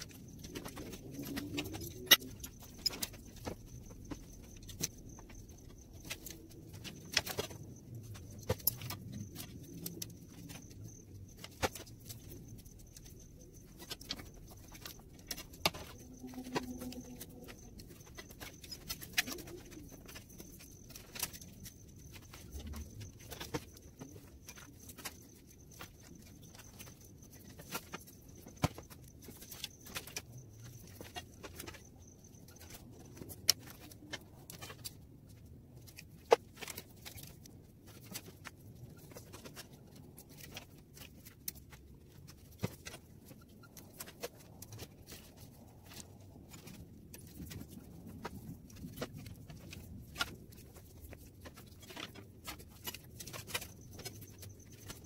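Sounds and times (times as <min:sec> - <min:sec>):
wire clicks and scrapes: 0:00.0 - 0:55.0.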